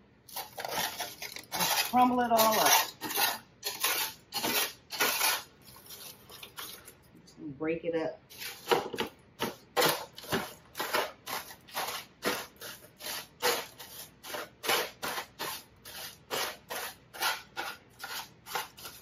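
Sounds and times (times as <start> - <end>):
crispy bacon crunching: 0.3 - 7.2, 9.4 - 19.0.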